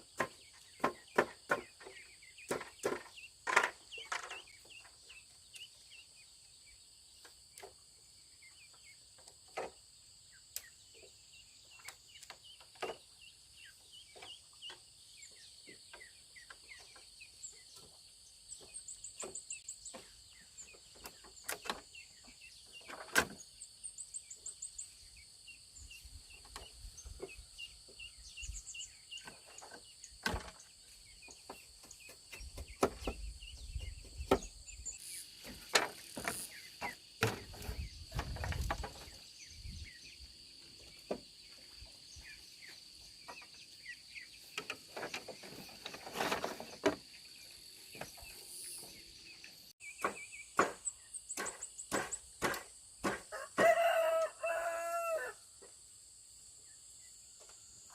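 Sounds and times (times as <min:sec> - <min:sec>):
insects chirring: 0:00.0 - 0:57.9.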